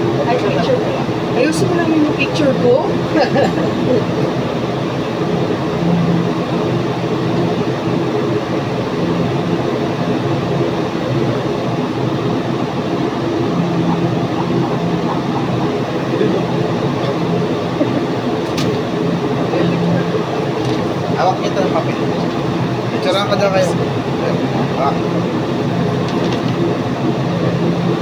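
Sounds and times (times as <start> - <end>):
mechanical drone with low hum: 0.0 - 28.0.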